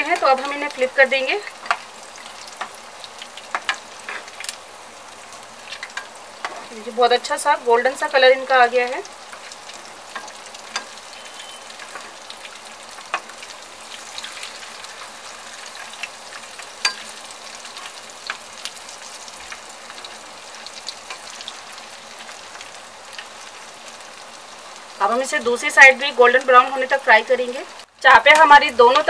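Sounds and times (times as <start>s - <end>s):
meat sizzling in oil: 0.0s - 29.0s.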